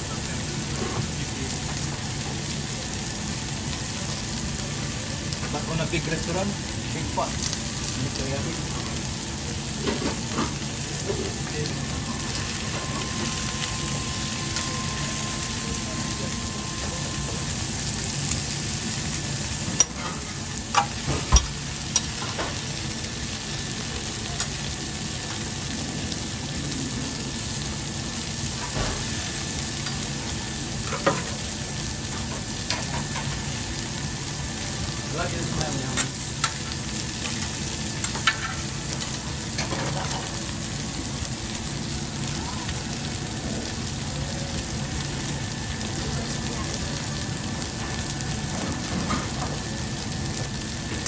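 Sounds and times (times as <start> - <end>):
food sizzling on a griddle: 0.0 - 51.0.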